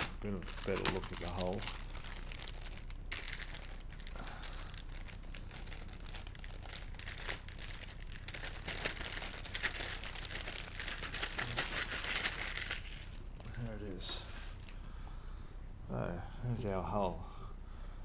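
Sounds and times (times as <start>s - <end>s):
plastic wrapping crinkling: 0.0s - 14.8s.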